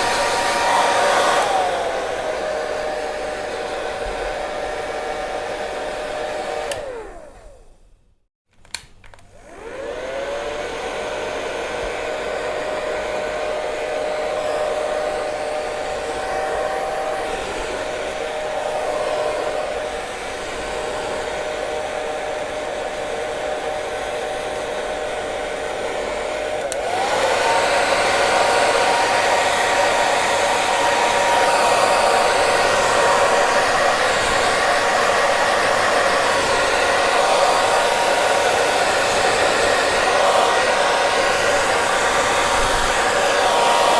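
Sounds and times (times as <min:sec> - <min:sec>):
hair dryer running: 0:00.0 - 0:07.9, 0:08.7 - 0:43.9.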